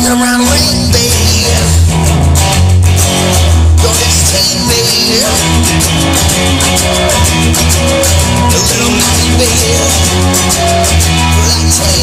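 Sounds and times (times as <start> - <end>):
instrumental rock music: 0.0 - 12.0.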